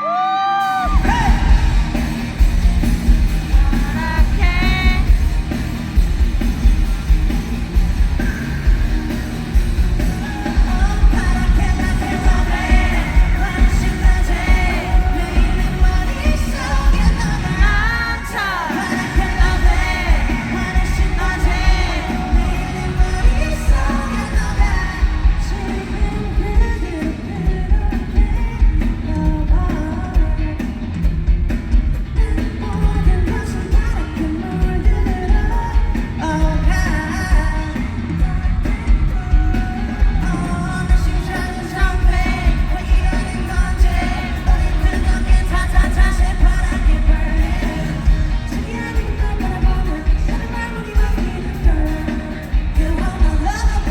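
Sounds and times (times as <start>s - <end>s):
live pop-rock song with singing: 0.0s - 53.9s
heavy bass beat: 0.9s - 18.0s, 18.8s - 30.4s, 31.0s - 53.9s.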